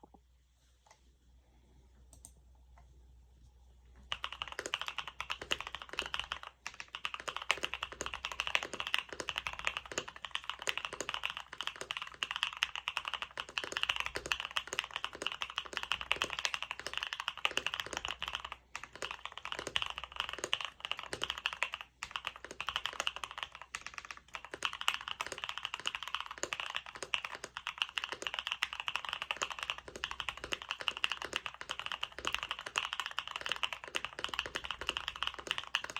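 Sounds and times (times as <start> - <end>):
fast mechanical keyboard typing: 4.1 - 35.9.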